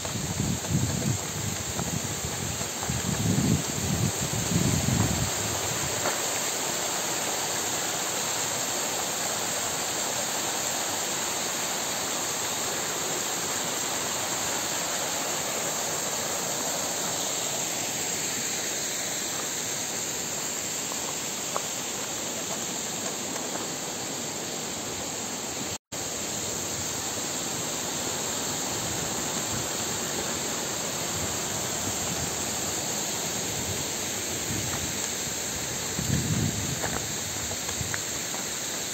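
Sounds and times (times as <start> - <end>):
small waterfall splashing: 0.0 - 38.9.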